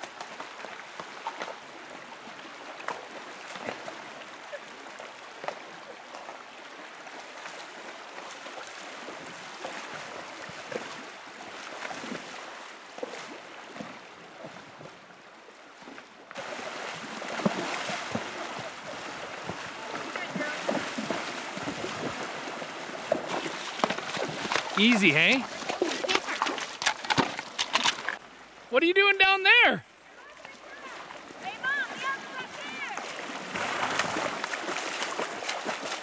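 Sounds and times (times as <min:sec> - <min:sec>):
horses splashing in water: 0:00.0 - 0:28.4, 0:29.5 - 0:36.0
flowing river water: 0:00.0 - 0:36.0.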